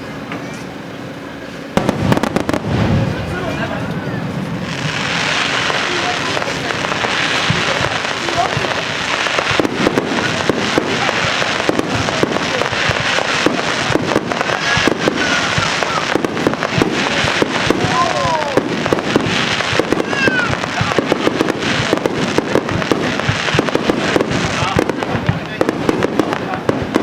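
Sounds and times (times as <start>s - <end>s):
fireworks cracking and popping: 1.5s - 27.0s.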